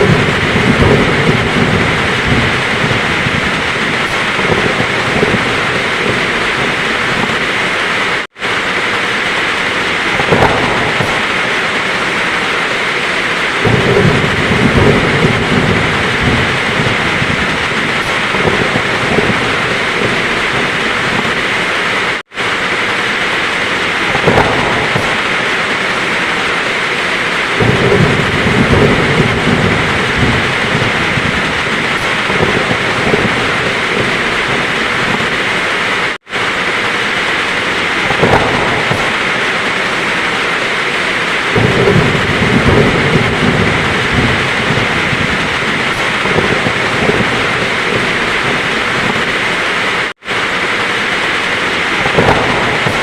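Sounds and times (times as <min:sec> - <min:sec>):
heavy rain pouring: 0:00.0 - 0:53.0
thunder rolling: 0:00.0 - 0:53.0.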